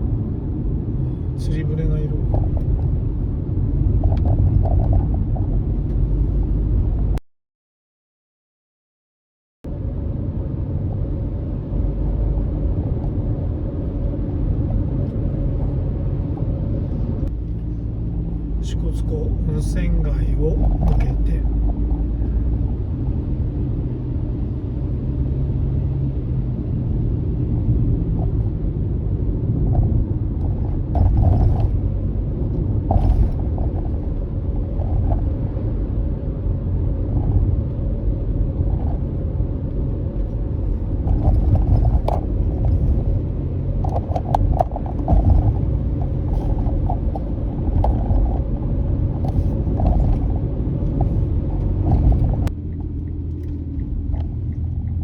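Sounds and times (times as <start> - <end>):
engine and tyre rumble: 0.0 - 7.2, 9.6 - 55.0.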